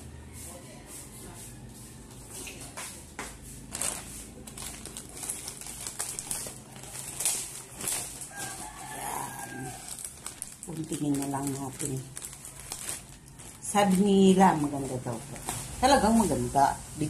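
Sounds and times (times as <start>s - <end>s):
scissors and parcel handling: 2.4s - 16.3s.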